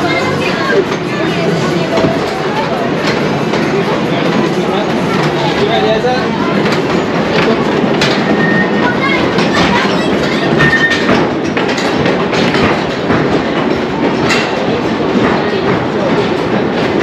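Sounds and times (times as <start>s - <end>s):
coaster wheels rumbling: 0.0s - 17.0s
track clicks and clacks: 0.0s - 17.0s.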